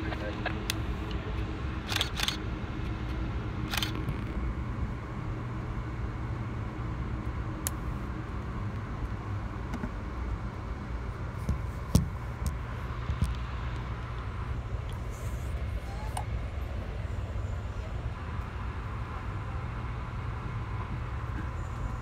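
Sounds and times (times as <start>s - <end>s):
train car rumble: 0.0s - 22.0s.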